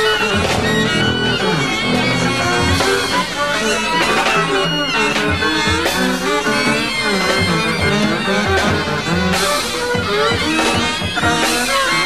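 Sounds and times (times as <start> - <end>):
bass: 0.0 - 12.0
drums: 0.0 - 12.0
saxophones: 0.0 - 12.0
trumpet: 0.0 - 12.0.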